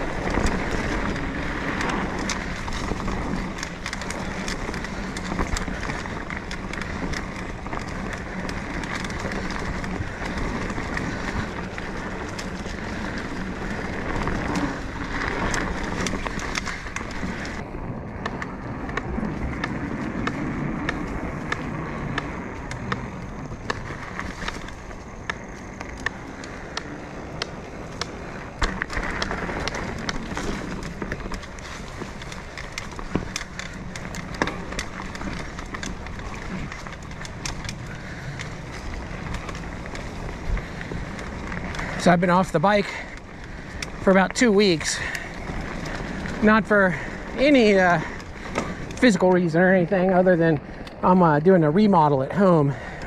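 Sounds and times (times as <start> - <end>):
bike rattling clicks and knocks: 0.0 - 53.0
bike tyres rolling on dirt: 0.0 - 53.0.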